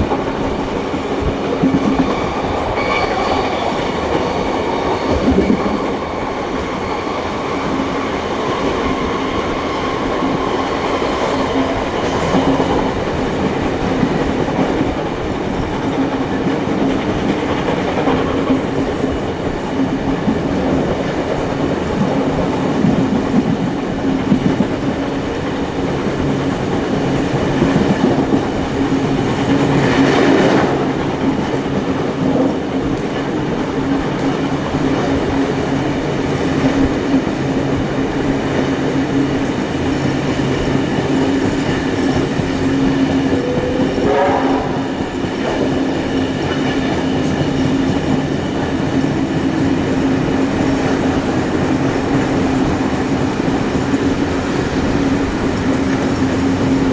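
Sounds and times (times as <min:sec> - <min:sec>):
train wheels on rails: 0:00.0 - 0:56.9.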